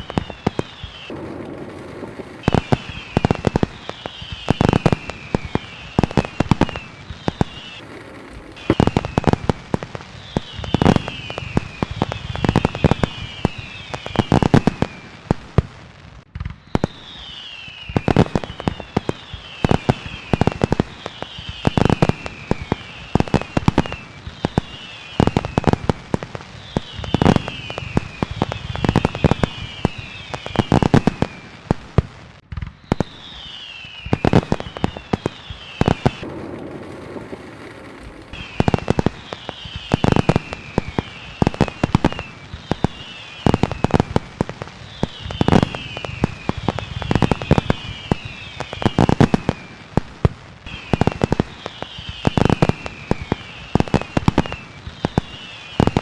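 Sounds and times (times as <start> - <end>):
fireworks bangs and bursts: 0.0 - 56.0
fireworks falling whistles: 0.0 - 56.0.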